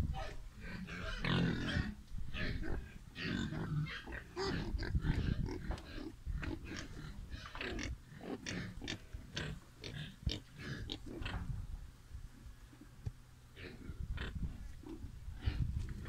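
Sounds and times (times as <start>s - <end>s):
young pigs grunting: 0.1s - 11.6s, 13.6s - 16.0s.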